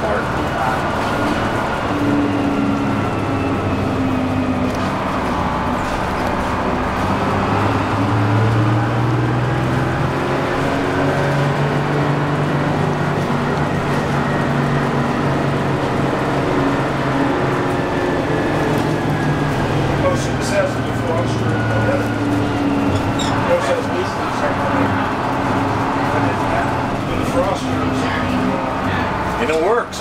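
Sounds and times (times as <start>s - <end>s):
diesel bus engine running: 0.0s - 30.0s.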